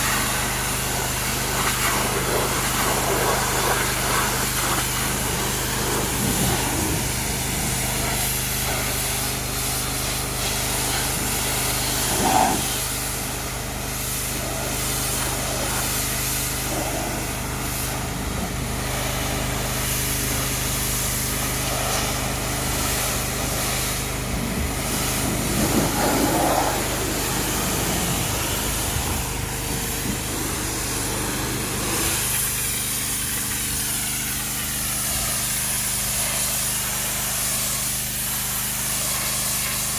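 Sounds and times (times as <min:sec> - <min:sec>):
pressure washer humming: 0:00.0 - 0:39.9
water jet hissing on metal: 0:00.0 - 0:39.9.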